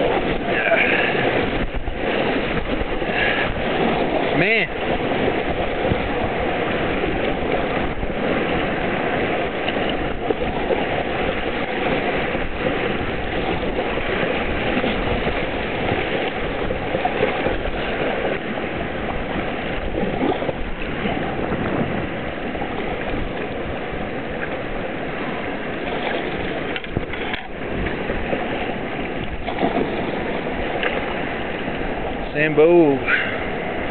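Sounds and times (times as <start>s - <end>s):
whitewater rushing and splashing: 0.0s - 33.9s.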